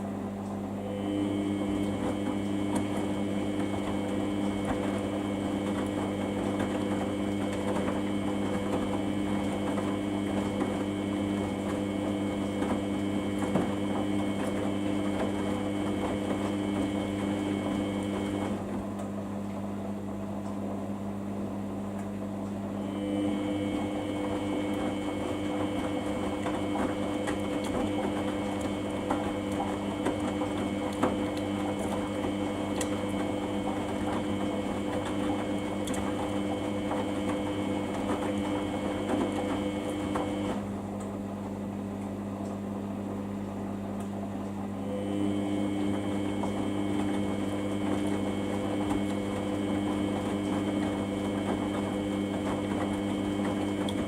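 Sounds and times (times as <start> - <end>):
washing machine hum: 0.0 - 54.0
motor whine: 0.7 - 18.9, 22.8 - 40.7, 44.8 - 54.0.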